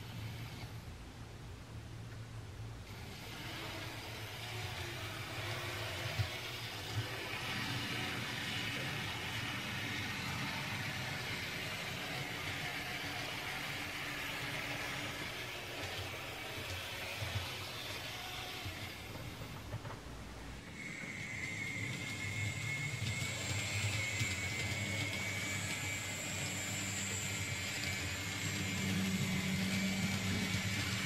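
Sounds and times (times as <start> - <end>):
model tram motors whirring: 0.0 - 0.9, 2.8 - 31.0
wheels rumbling over track: 2.9 - 31.0.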